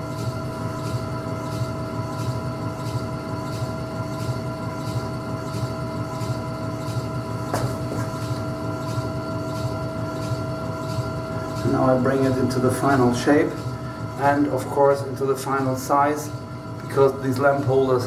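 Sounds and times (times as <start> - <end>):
potter's wheel humming: 0.0 - 18.0.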